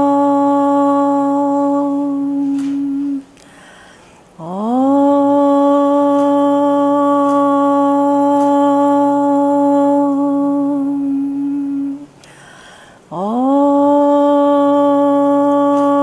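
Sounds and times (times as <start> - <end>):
person chanting om: 0.0 - 3.4, 4.3 - 12.3, 12.9 - 16.0.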